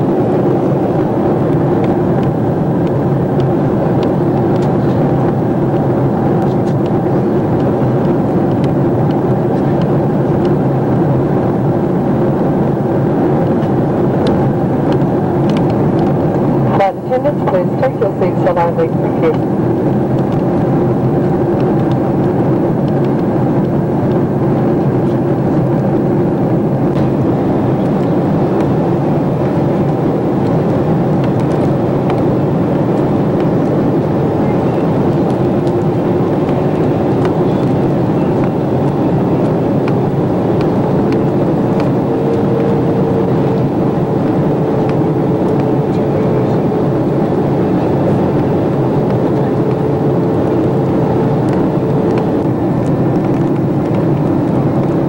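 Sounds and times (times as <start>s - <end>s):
low hum: 0.0s - 55.0s
rush of engines and airflow: 0.0s - 55.0s.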